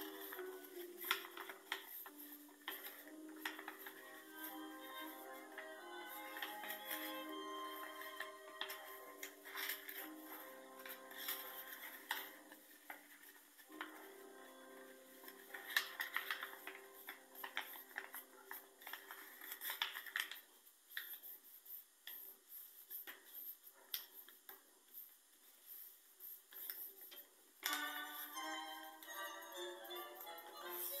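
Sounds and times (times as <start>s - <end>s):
paper rustling and creasing: 0.0s - 29.2s.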